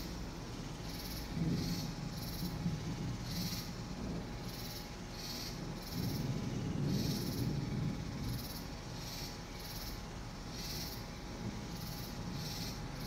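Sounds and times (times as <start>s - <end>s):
night insects calling: 0.0s - 13.0s.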